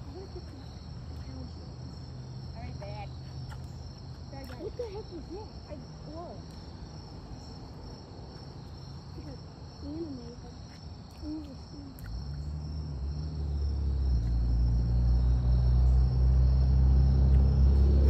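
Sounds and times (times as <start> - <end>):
vehicle engine rumble: 0.0 - 10.6, 11.2 - 18.0
crickets trilling: 0.0 - 18.0.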